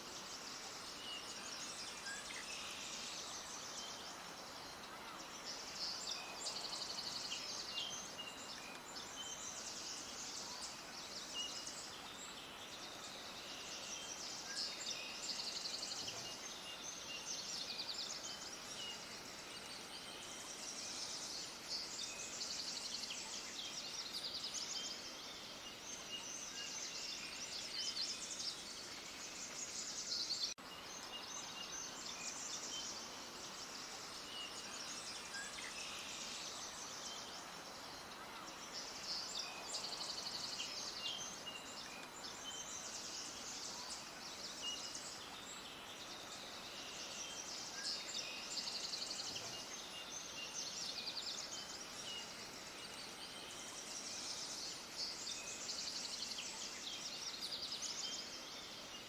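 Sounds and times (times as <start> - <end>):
small birds chirping: 0.0 - 59.0
steady background hiss: 0.0 - 59.0.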